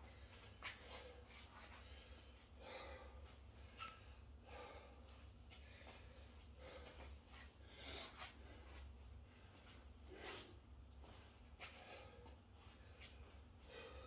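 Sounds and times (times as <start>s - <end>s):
man breathing heavily: 0.0s - 14.0s.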